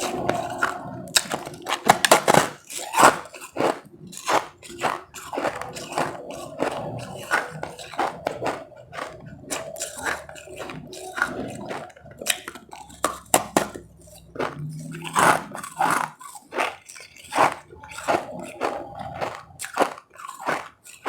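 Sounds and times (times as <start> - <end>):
ice being chewed: 0.0 - 21.0.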